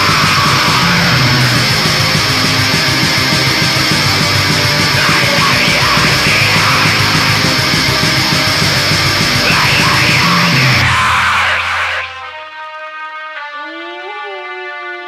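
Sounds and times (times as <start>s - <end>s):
heavy metal music: 0.0s - 13.2s.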